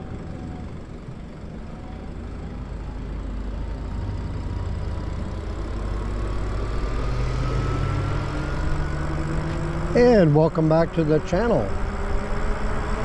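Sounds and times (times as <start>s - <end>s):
electric motor whine: 0.0s - 13.0s
wind and road noise: 0.0s - 13.0s.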